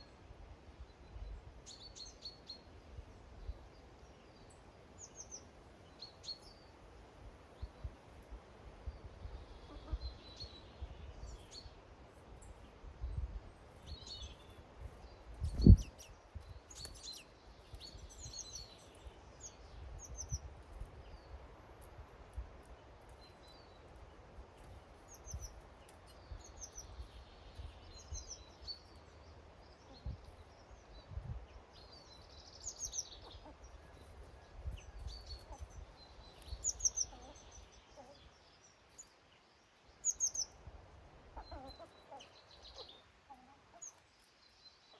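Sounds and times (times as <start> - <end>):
small birds chirping: 0.9 - 6.7, 7.4 - 44.9.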